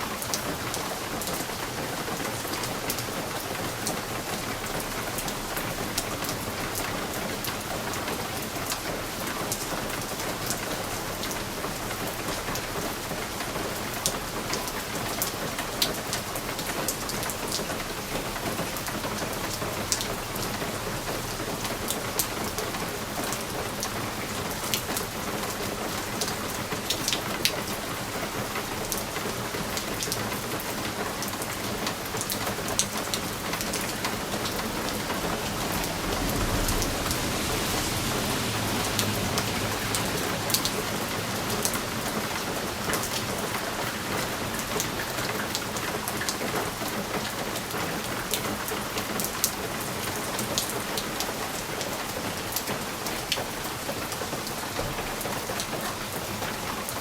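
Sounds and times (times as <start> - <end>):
rain on a window pane: 0.0 - 57.0.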